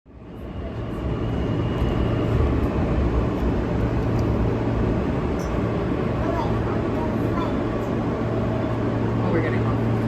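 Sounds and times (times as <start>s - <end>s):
subway train rumble: 0.1s - 10.0s.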